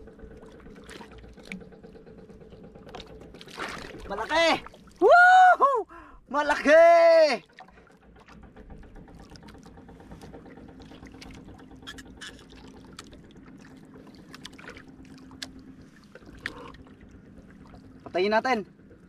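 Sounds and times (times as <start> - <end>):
faint steady hum: 0.0 - 19.0
water lapping against hull: 0.0 - 19.0
small splashes and knocks: 0.3 - 5.0, 7.3 - 18.2.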